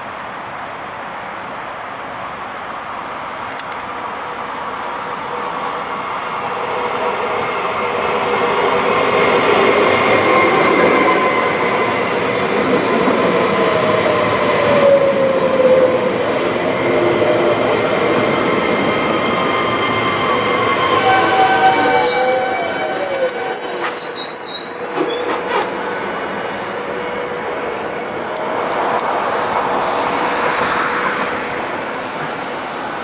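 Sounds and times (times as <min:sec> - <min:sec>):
electric train passing: 0:00.4 - 0:33.0
wheel and rail noise: 0:03.2 - 0:33.0.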